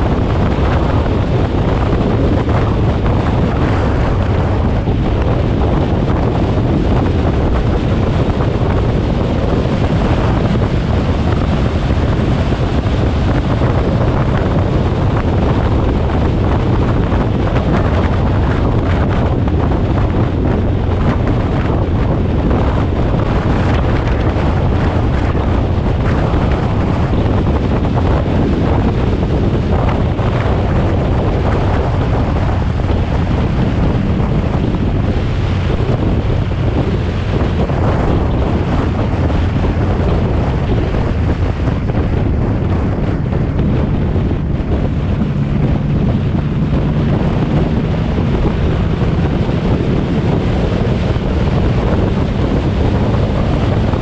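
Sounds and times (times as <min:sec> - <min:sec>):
car engine droning: 0:00.0 - 0:54.0
wind buffeting microphone: 0:00.0 - 0:54.0.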